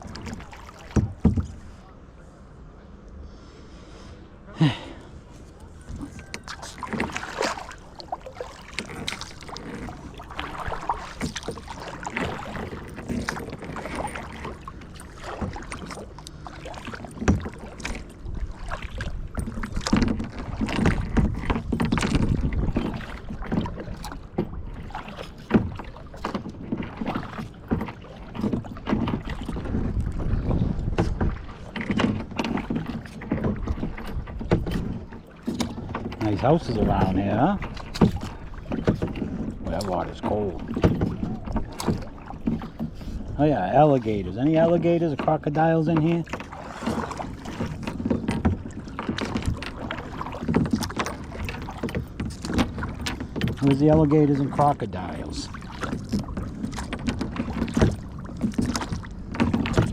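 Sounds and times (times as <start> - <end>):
paddle splashing in water: 0.0 - 2.0, 3.8 - 59.9
water sloshing against hull: 0.0 - 59.9.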